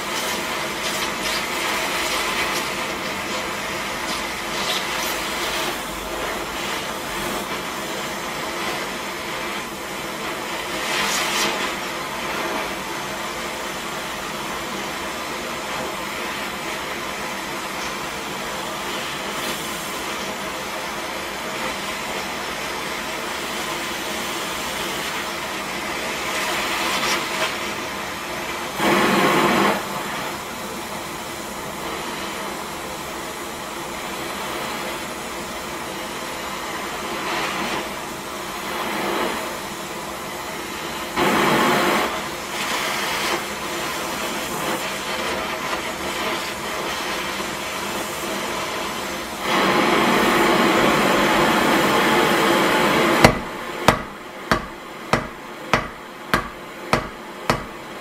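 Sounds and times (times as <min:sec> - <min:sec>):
torch flame hissing: 0:00.0 - 0:58.0.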